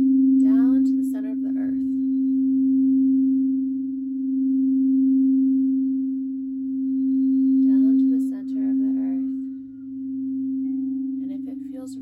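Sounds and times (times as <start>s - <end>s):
singing bowl steady tone: 0.0s - 12.0s.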